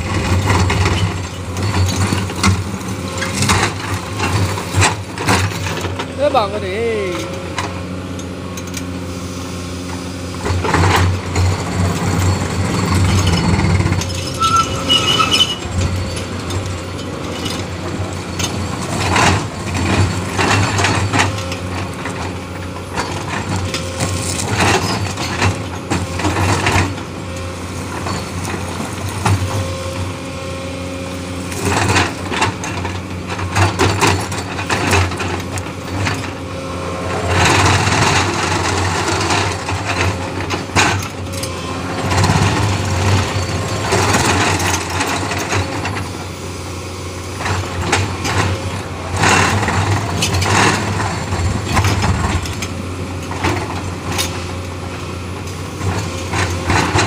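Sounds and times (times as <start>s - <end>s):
hydraulic breaker pounding rock: 0.0s - 9.0s, 9.9s - 57.0s
diesel engine running: 0.0s - 57.0s.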